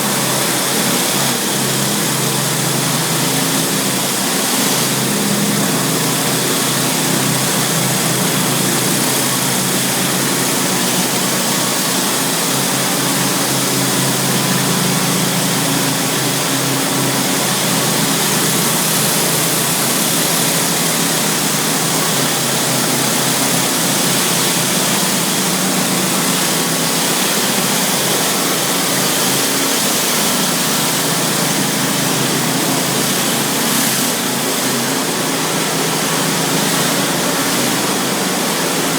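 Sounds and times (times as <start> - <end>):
pressure washer spraying concrete: 0.0 - 38.9.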